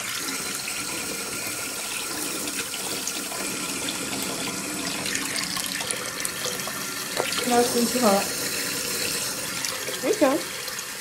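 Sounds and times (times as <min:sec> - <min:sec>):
tap running into sink: 0:00.0 - 0:10.8.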